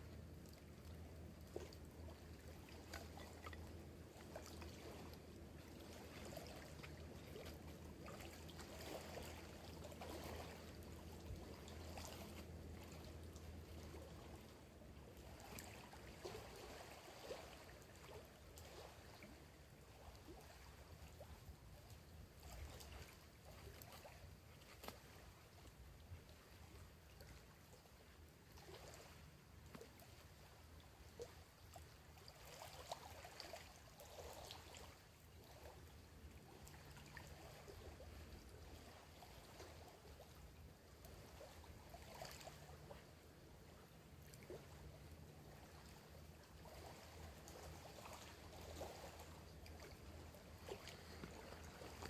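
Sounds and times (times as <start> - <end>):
lake water lapping: 0.0 - 52.0.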